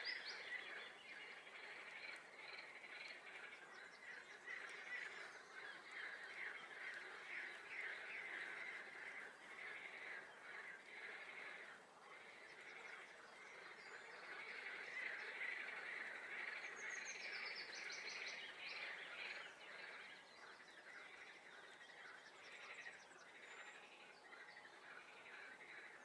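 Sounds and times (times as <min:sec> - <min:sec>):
frogs chorus: 0:00.0 - 0:26.0.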